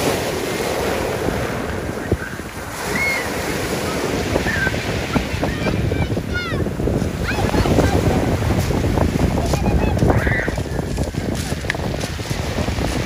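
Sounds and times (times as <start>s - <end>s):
sea waves washing on shore: 0.0s - 13.0s
wind gusting on microphone: 0.0s - 13.0s.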